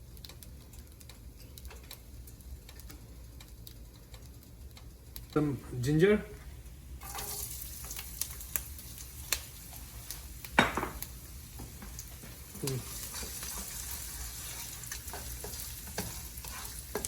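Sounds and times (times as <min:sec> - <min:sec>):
sizzling in hot oil: 0:00.0 - 0:17.0.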